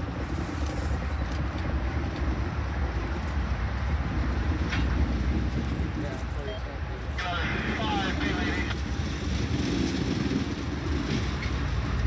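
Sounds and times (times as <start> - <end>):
diesel locomotive engine rumble: 0.0 - 12.0
train wheels rolling on rails: 0.0 - 12.0.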